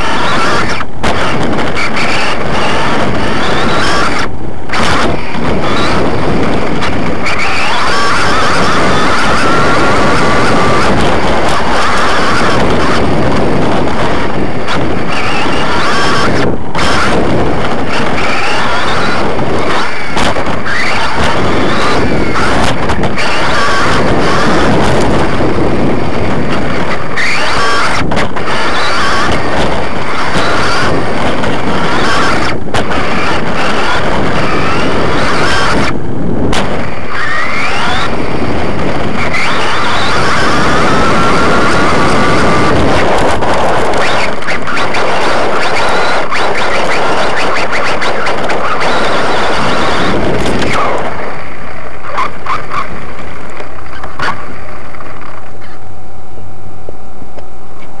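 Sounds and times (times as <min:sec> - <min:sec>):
rc car rattling over dirt: 0:00.0 - 0:55.9
electric motor whine: 0:00.0 - 0:58.0.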